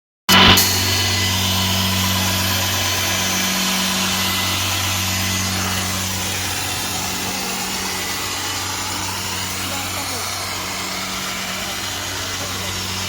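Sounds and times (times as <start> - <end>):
sprayer motor humming with hiss: 0.3 - 13.0.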